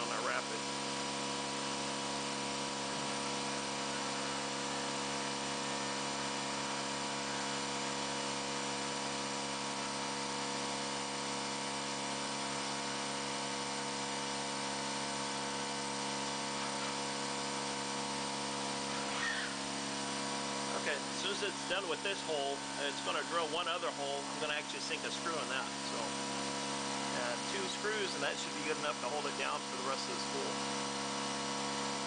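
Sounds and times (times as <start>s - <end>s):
mill spindle whine: 0.0s - 32.0s.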